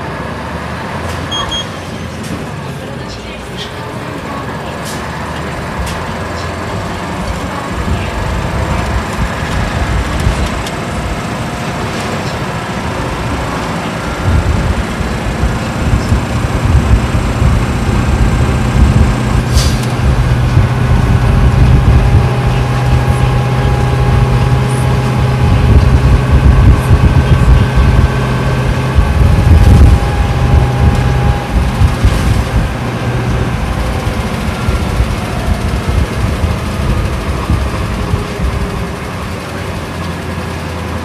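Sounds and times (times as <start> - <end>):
bus engine low drone: 0.0 - 41.0.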